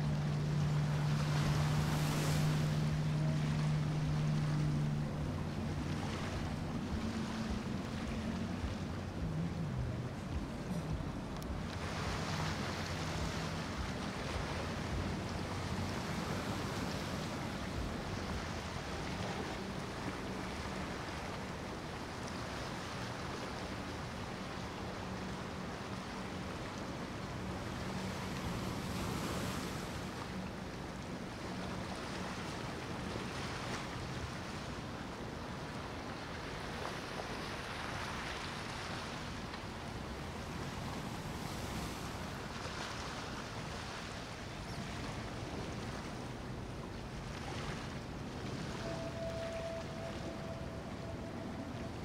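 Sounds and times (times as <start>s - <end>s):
boat engine hum: 0.0s - 52.0s
choppy water: 0.0s - 52.0s
wind: 0.0s - 52.0s.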